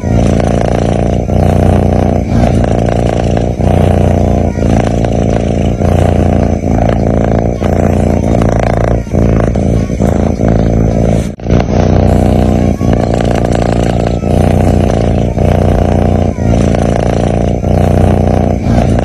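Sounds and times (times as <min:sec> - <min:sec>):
kitten snoring: 0:00.0 - 0:19.0.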